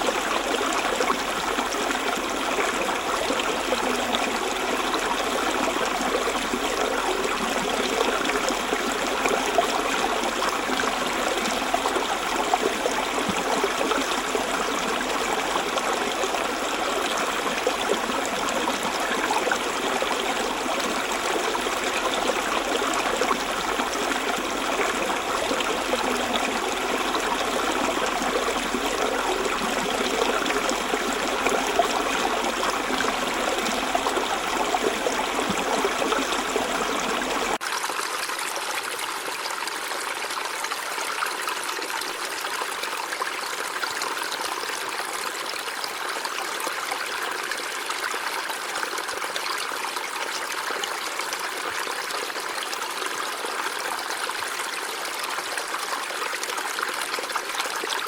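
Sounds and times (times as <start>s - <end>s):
river water running over rocks: 0.0s - 58.0s.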